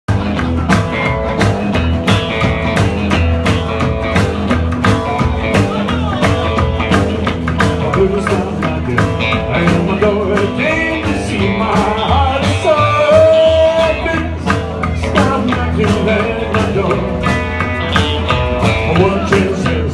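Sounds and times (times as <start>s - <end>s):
bass: 0.0s - 19.9s
guitar: 0.1s - 19.9s
steady drum beat: 0.1s - 19.9s.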